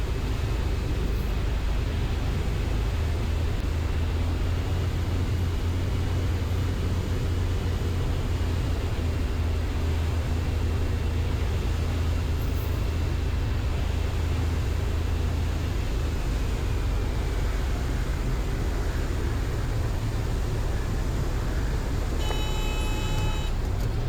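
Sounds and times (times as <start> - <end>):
light aircraft cabin drone: 0.0 - 24.0.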